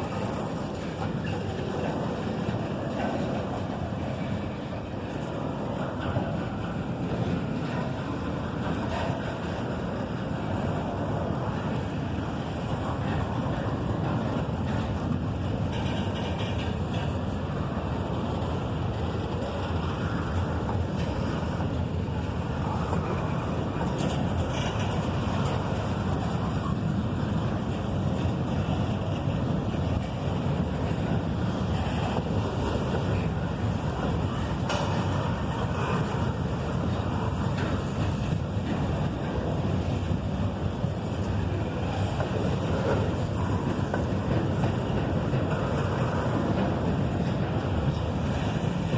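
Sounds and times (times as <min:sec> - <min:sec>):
train cars rumbling on rails: 0:00.0 - 0:48.9.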